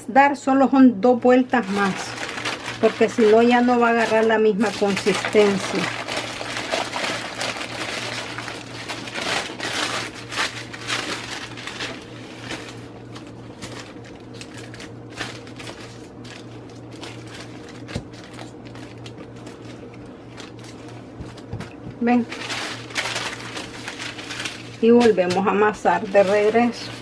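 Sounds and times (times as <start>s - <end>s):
steady low hum: 0.0s - 27.0s
plastic sheet crinkling: 1.2s - 27.0s.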